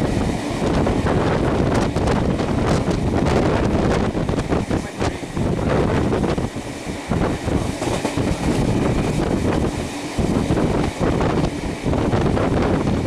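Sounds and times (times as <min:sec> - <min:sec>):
steam train running noise: 0:00.0 - 0:13.0
wind buffeting microphone: 0:00.0 - 0:13.0.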